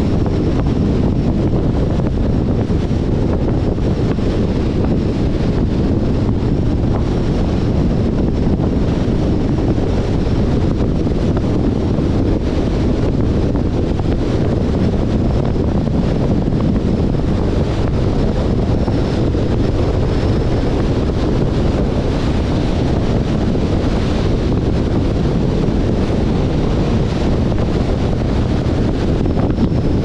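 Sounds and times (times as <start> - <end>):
car road noise: 0.0 - 30.0
wind rush over microphone: 0.0 - 30.0.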